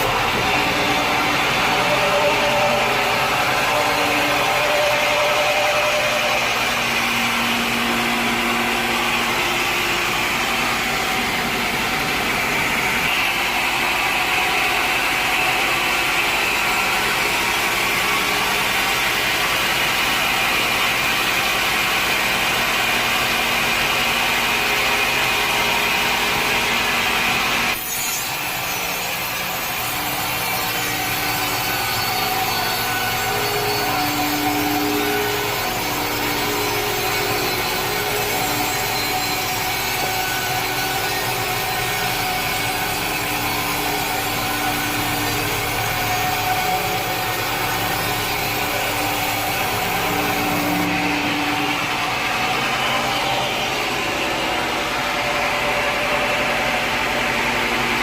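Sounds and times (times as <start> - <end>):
saw cutting through log: 0.0 - 58.0.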